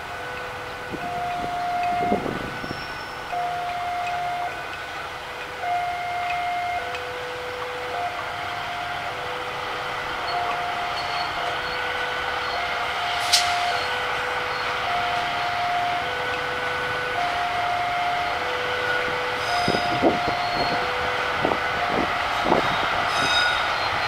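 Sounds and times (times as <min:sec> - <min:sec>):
locomotive engine and wheels: 0:00.0 - 0:24.0
two-tone electronic warning alarm: 0:00.1 - 0:24.0.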